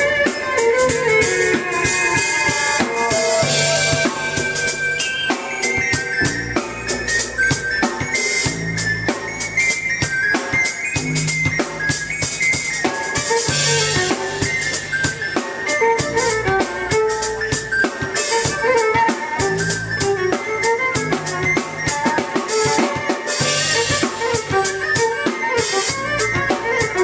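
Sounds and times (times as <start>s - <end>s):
violin melody: 0.0s - 8.8s, 13.0s - 27.0s
keyboard bass line: 0.0s - 10.2s, 11.0s - 17.9s, 18.5s - 27.0s
drum kit beat: 0.0s - 27.0s.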